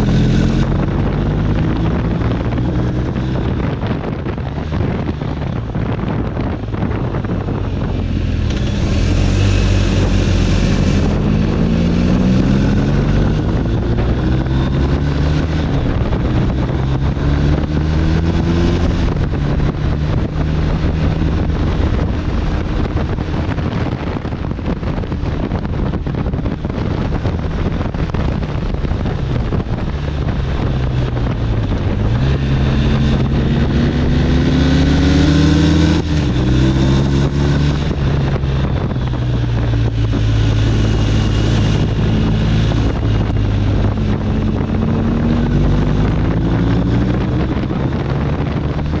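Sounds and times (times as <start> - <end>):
motorcycle engine under way: 0.0 - 49.0
wind rush on microphone: 0.0 - 49.0.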